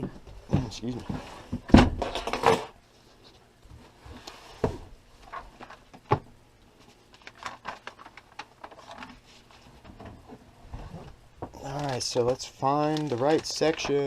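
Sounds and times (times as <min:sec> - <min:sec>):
manual handled knocks and rustling: 0:00.0 - 0:06.9, 0:08.6 - 0:14.0.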